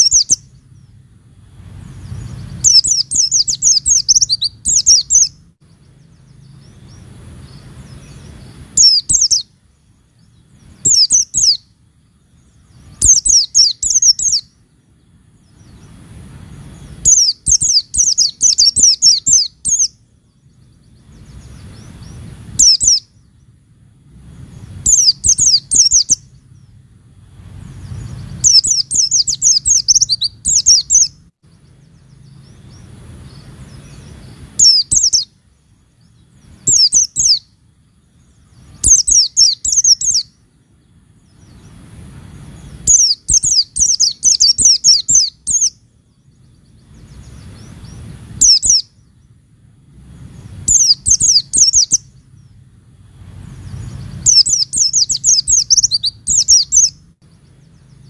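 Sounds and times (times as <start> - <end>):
bird chirping rapidly: 0.0 - 58.0
faint low hum: 0.0 - 58.0.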